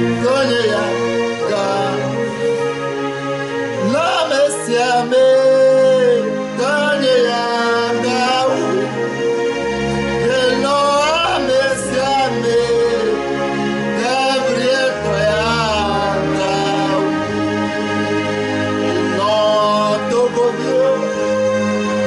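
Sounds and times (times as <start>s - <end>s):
man singing worship song: 0.0s - 2.8s, 3.7s - 9.3s, 10.1s - 18.0s, 18.7s - 22.0s
instrumental accompaniment with bass: 0.0s - 22.0s.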